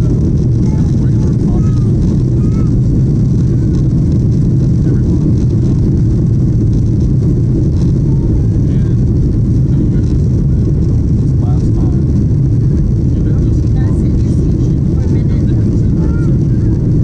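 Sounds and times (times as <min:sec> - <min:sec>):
airflow over fuselage: 0:00.0 - 0:17.0
loud low jet engine rumble: 0:00.0 - 0:17.0.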